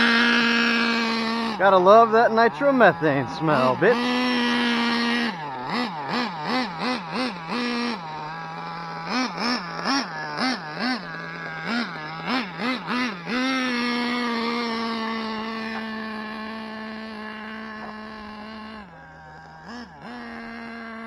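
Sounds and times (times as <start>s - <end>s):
model car engine revving: 0.0s - 21.0s.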